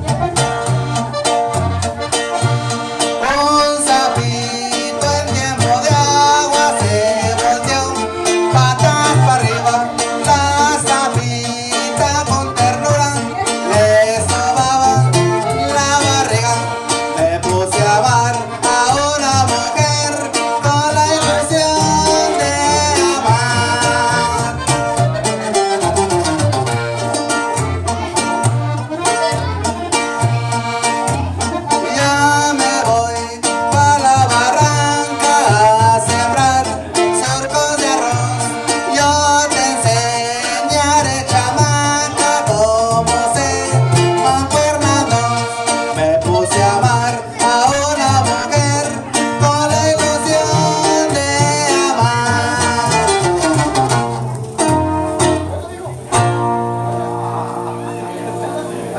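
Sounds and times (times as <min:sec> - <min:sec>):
button accordion melody: 0:00.0 - 0:58.9
strummed guitar: 0:00.0 - 0:58.9
upright bass plucking: 0:00.0 - 0:58.9.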